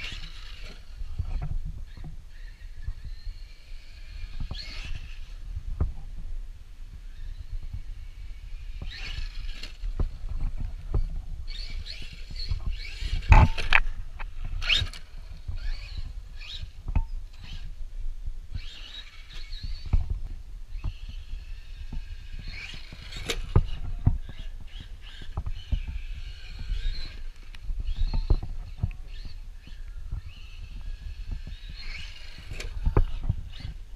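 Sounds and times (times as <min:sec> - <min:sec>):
rc truck motor whine: 0:00.0 - 0:06.2, 0:06.9 - 0:17.8, 0:18.5 - 0:33.9.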